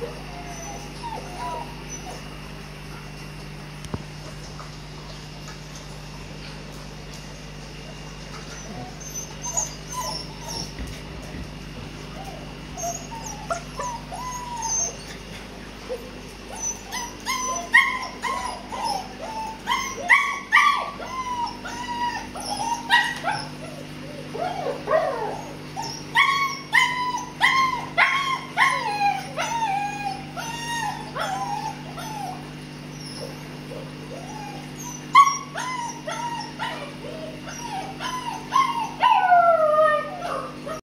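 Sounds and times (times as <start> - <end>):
puppies whining and yipping: 0.0 - 3.8, 7.4 - 40.8.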